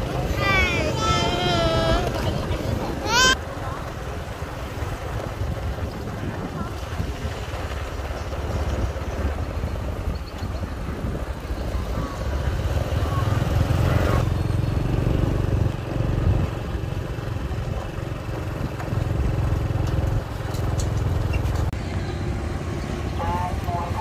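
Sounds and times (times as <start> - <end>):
motorbike engine rumble: 0.0 - 24.0
traffic: 0.0 - 24.0.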